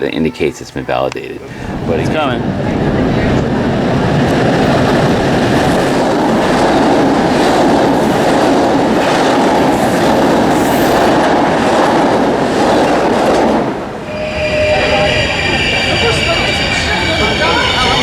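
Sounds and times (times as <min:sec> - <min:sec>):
train rumbling on rails: 0:01.5 - 0:18.0.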